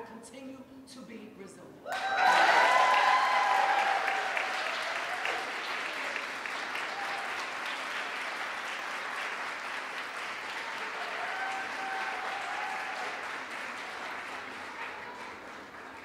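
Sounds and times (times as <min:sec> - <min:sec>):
audience applauding: 0:01.9 - 0:16.0.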